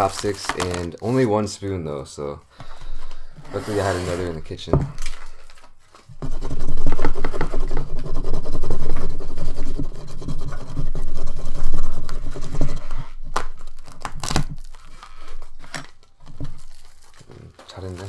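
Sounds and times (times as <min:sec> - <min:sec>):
plastic cling wrap rubbing and tearing: 0:00.0 - 0:01.5, 0:05.0 - 0:18.0.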